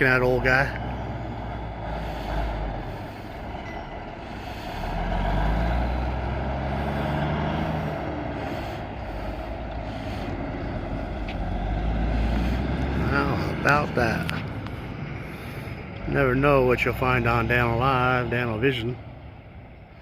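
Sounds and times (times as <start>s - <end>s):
diesel truck engine pulling away: 0.0s - 20.0s.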